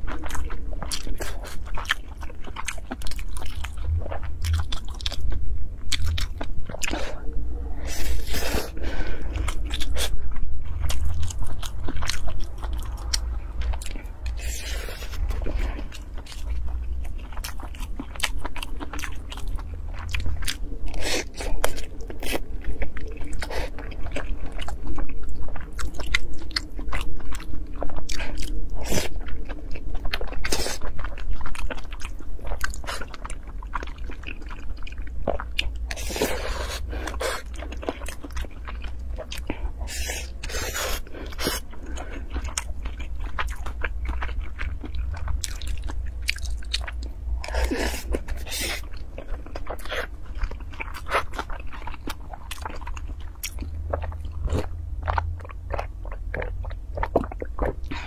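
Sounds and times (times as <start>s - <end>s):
chewing and mouth smacks: 0.0s - 7.0s, 9.3s - 58.0s
steady low hum: 0.0s - 58.0s.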